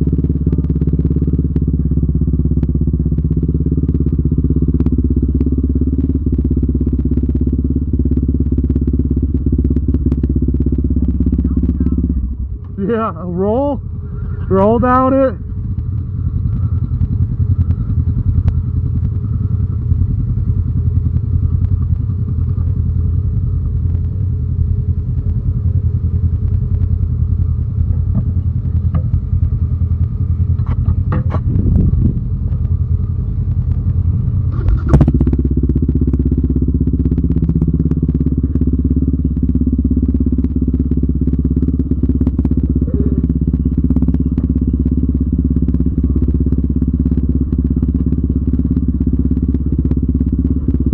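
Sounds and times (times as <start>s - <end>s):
quad engine running: 0.0s - 50.9s.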